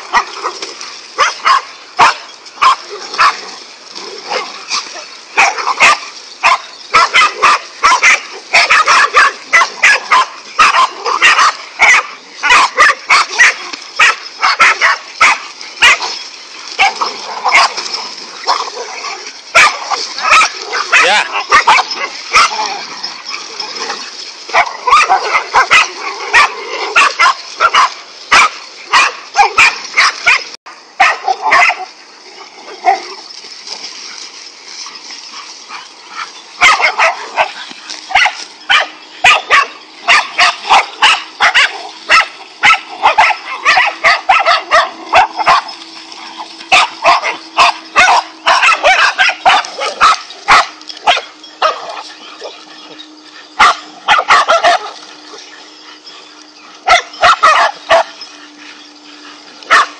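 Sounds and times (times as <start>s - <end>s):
dogs barking: 0.0s - 59.9s.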